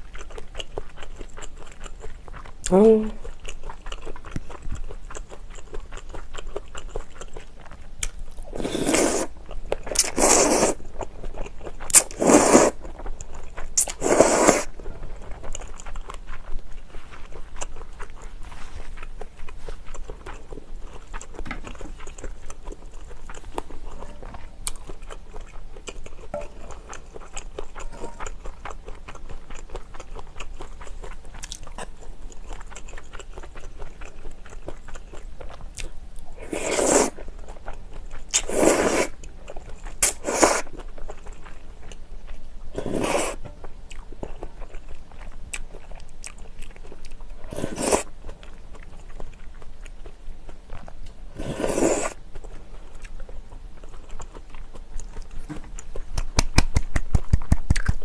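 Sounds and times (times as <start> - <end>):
wet chewing with mouth smacks: 0.0 - 58.0.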